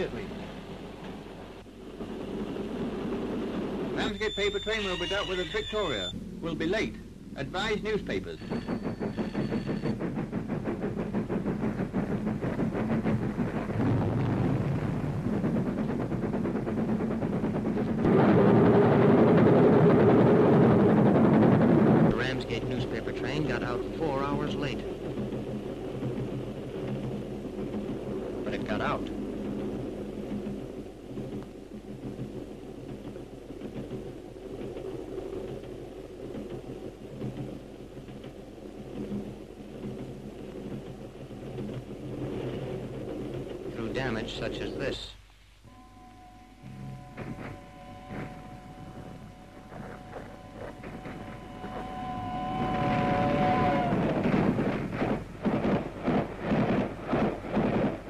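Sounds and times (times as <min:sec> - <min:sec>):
steam train running: 0:00.0 - 0:58.0.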